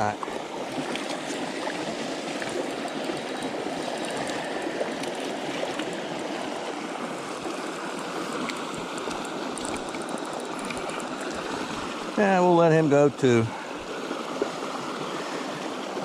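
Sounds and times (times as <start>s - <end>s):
creek water flowing over rocks: 0.0s - 16.0s.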